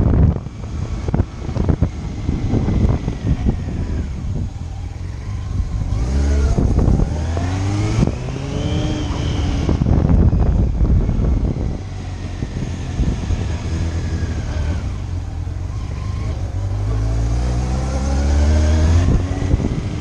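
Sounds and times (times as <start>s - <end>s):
motorcycle engine accelerating: 0.0s - 20.0s
wind on microphone: 0.0s - 20.0s.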